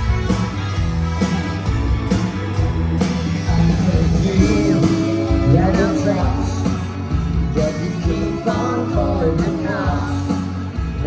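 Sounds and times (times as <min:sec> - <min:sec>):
bass guitar: 0:00.0 - 0:11.0
electric guitar: 0:00.0 - 0:11.0
keyboard: 0:00.0 - 0:11.0.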